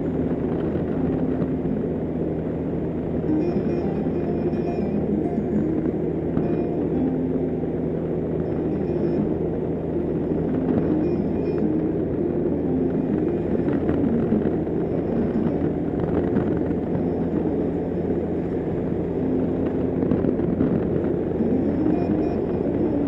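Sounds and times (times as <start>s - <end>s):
motorcycle engine hum: 0.0s - 23.0s
wind and road noise: 0.0s - 23.0s.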